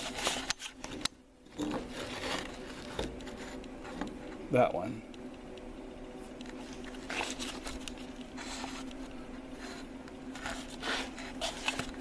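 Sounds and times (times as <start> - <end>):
handling and rustling noises: 0.0 - 4.5, 6.2 - 12.0
steady low hum: 0.0 - 12.0.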